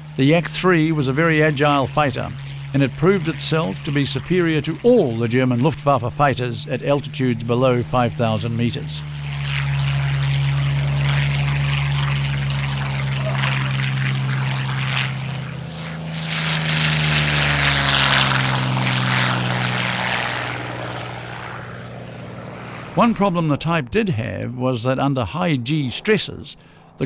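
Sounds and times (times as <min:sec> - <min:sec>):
propeller plane engine drone: 0:00.0 - 0:27.0.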